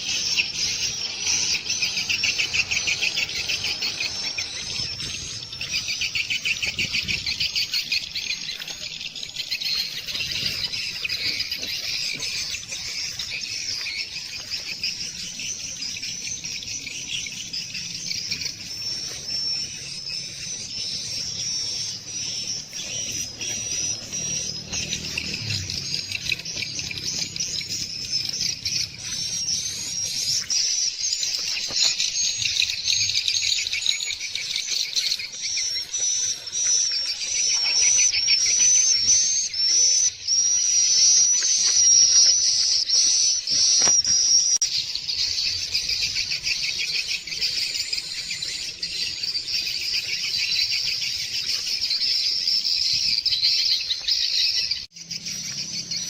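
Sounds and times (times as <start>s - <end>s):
birds chirping: 0.0s - 56.0s
sharp repeated bird calls: 0.0s - 56.0s.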